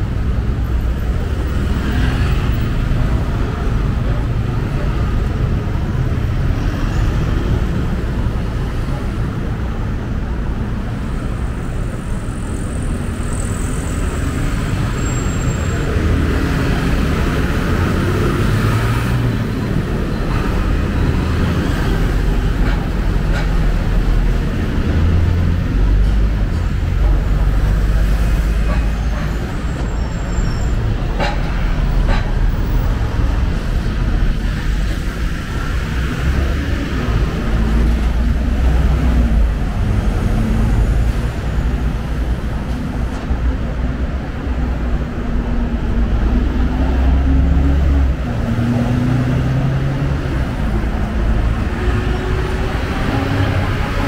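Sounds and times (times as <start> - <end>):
rumble of passing cars: 0.0 - 54.0.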